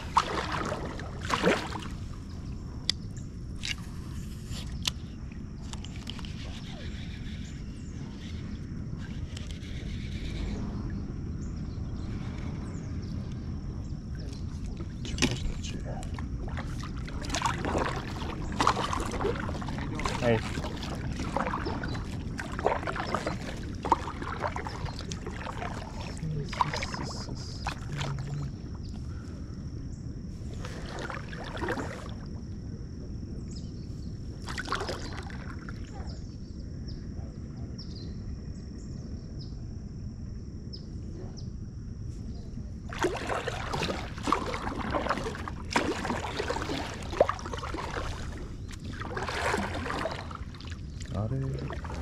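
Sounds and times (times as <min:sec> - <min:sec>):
water splashing around kayak: 0:00.0 - 0:08.3, 0:08.9 - 0:36.5, 0:42.7 - 0:52.0
steady low rumble: 0:00.0 - 0:52.0.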